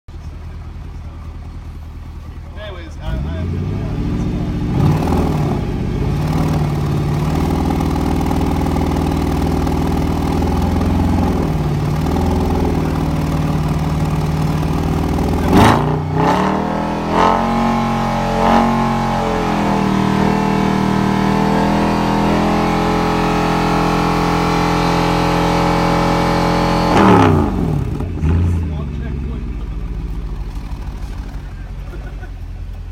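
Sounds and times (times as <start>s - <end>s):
car engine revving: 0.2s - 32.9s.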